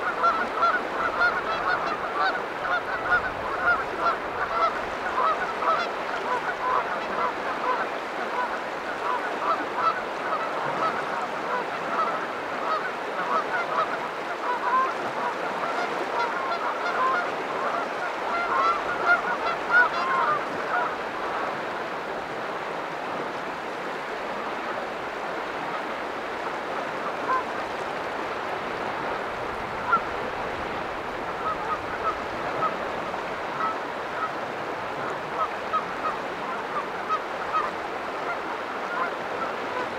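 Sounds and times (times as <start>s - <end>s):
geese honking: 0.0s - 21.8s, 25.7s - 27.6s, 28.6s - 39.9s.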